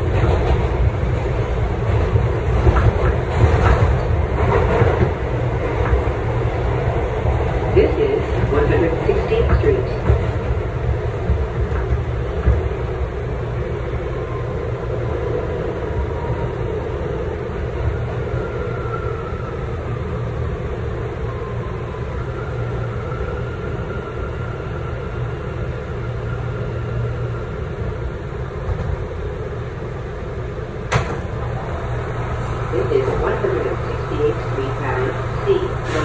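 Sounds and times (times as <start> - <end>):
subway wheels rumbling on track: 0.0 - 36.0.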